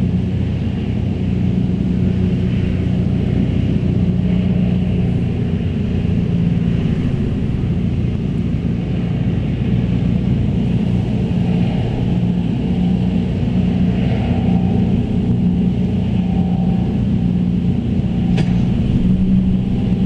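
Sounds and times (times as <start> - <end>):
round baler working: 0.0 - 20.0
tractor engine running: 0.0 - 20.0.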